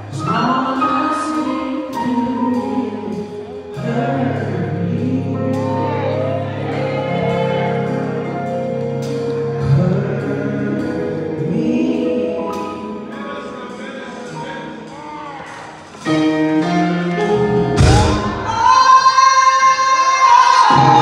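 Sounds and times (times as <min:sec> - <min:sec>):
keyboard chords: 0:00.0 - 0:21.0
woman singing: 0:00.1 - 0:08.8, 0:09.5 - 0:13.3, 0:16.6 - 0:21.0.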